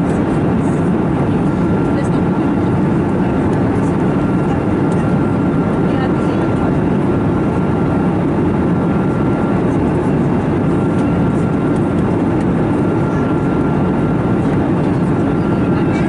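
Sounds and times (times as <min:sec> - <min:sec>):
airplane cabin airflow and engines: 0:00.0 - 0:16.0.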